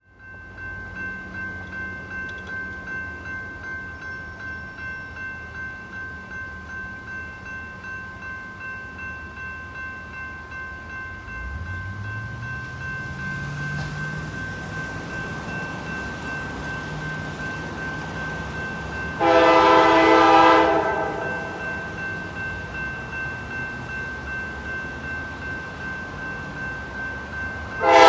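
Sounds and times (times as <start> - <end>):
crossing bell ringing: 0.0 - 28.0.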